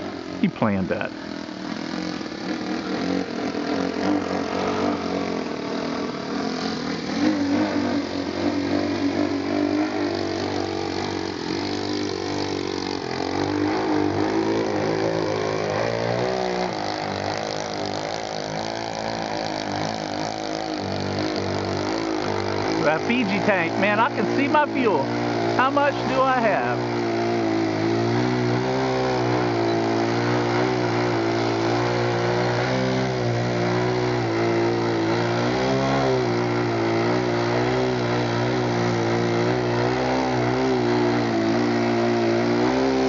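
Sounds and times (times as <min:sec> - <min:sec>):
model airplane engine: 0:00.0 - 0:43.0.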